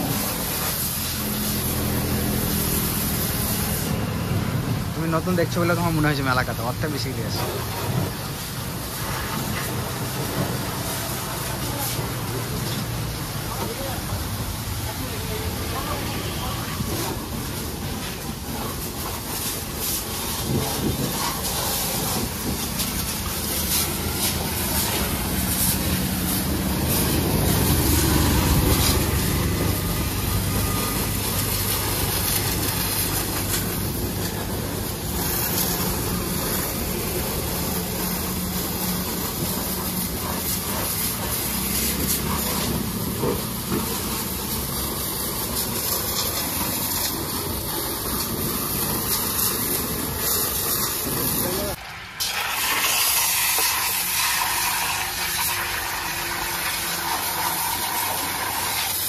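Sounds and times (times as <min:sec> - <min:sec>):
high-pressure water jet hissing: 0:00.0 - 0:59.0.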